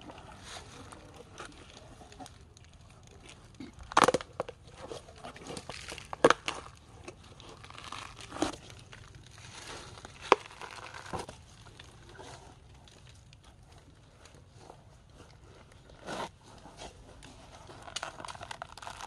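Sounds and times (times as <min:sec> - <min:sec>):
elephant crunching hard fruit: 0:00.0 - 0:19.0
soft crackling: 0:00.0 - 0:19.0.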